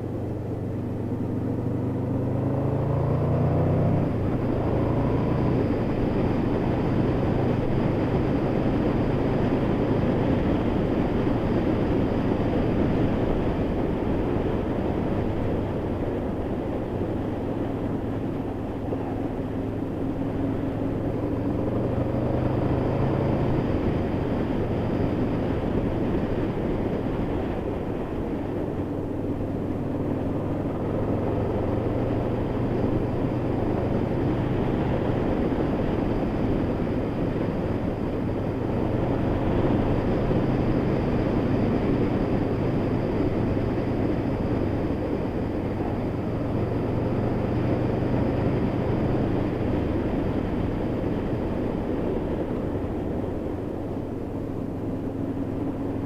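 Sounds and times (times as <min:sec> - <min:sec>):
motorcycle engine running: 0:00.0 - 0:56.0
wind noise: 0:03.5 - 0:56.0.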